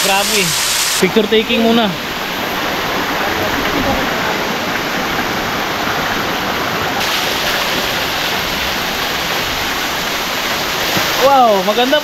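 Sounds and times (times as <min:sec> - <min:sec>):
waterfall pouring over rock: 0:00.0 - 0:12.0.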